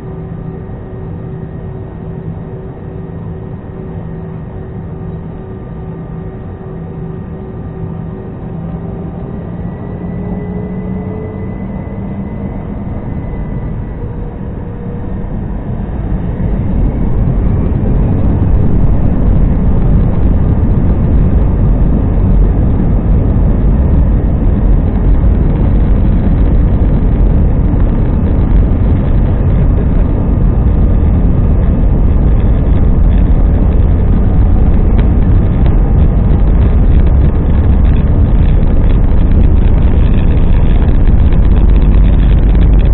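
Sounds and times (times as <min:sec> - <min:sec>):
jet engine rumble: 0:00.0 - 0:42.9
jet engine whine: 0:00.0 - 0:42.9.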